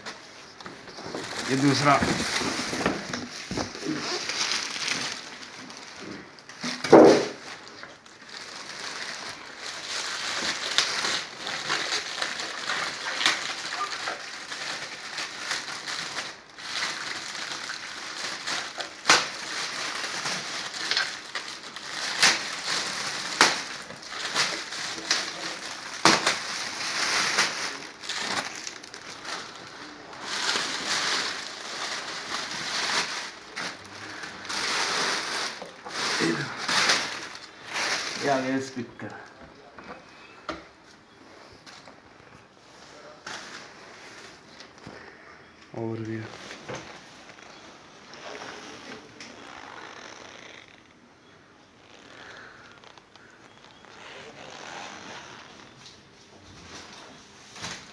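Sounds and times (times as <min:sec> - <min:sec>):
plastic and foam crinkling: 0:00.0 - 0:45.2, 0:45.8 - 0:51.0, 0:51.7 - 0:57.9.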